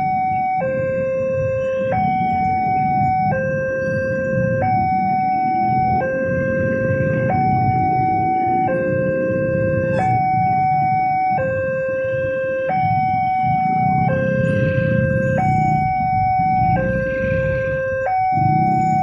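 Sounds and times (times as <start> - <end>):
two-tone crossing alarm: 0.0 - 19.0.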